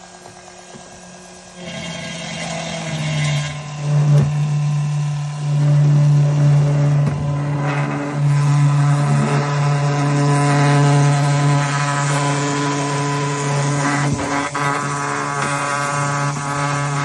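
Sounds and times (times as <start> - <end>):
electric pump humming: 0.0 - 17.0.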